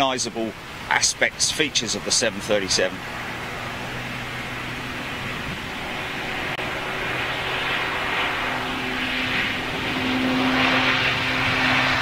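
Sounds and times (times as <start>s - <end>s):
aircraft engine noise: 0.0s - 12.0s
propeller hum: 0.0s - 12.0s.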